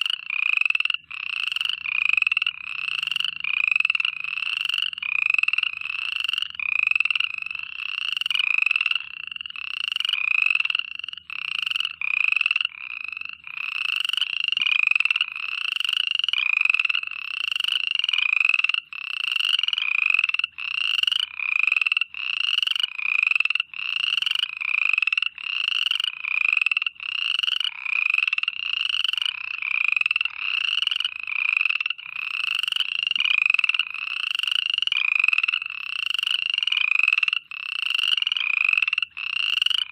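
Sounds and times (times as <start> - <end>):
frogs calling in chorus: 0.0 - 39.9.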